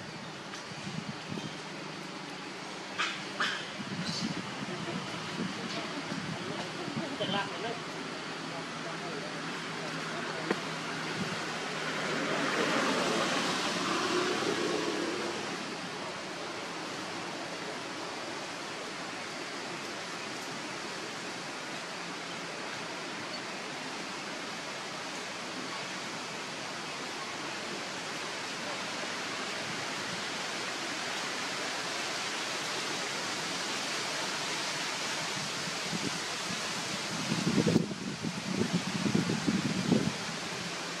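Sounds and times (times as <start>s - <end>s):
steady background hiss: 0.0s - 41.0s.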